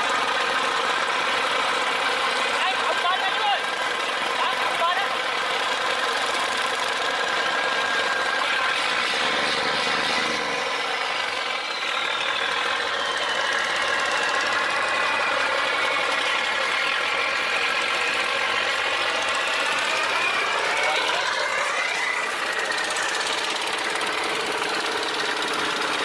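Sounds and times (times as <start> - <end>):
tugboat diesel engine running: 0.0 - 26.0.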